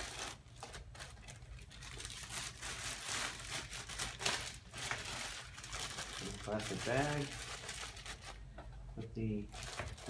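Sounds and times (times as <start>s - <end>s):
plastic bag crinkling: 0.0s - 8.5s, 9.4s - 10.0s.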